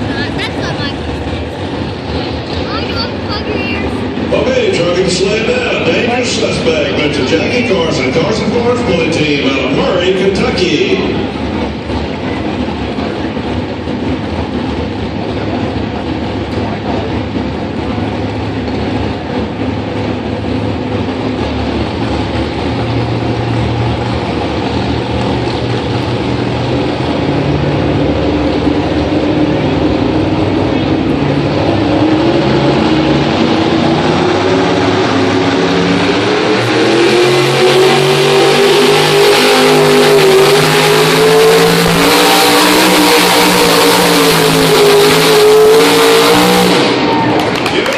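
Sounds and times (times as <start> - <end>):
truck engine running under load: 0.0 - 47.9.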